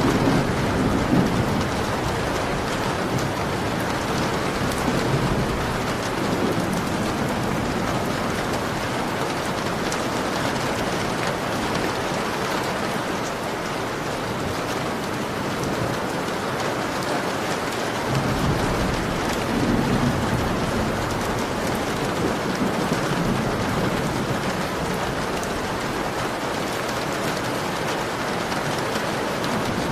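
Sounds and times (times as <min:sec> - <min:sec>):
heavy rain falling: 0:00.0 - 0:29.9
thunder rumbling: 0:00.0 - 0:29.9.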